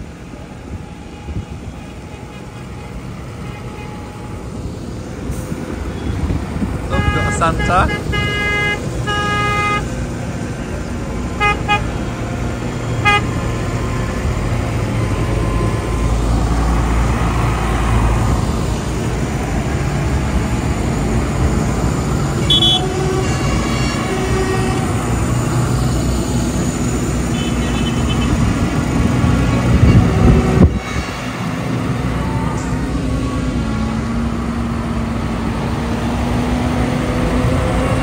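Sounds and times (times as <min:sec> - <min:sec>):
tractor engines rumbling: 0:00.0 - 0:38.0.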